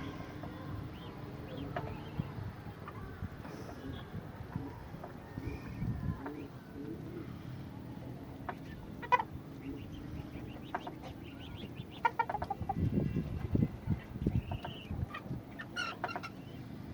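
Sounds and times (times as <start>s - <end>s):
domestic birds calling: 0.0s - 16.9s.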